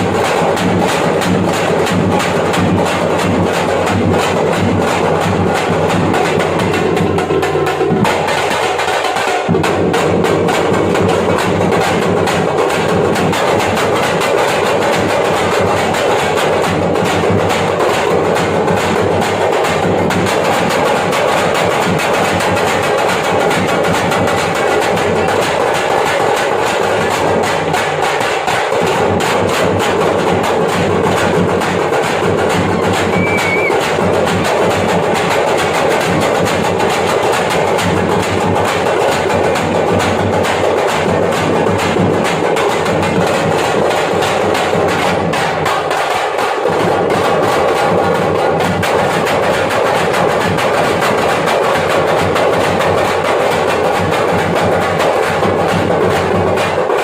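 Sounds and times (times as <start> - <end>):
frame drums beaten with sticks: 0.0 - 57.0.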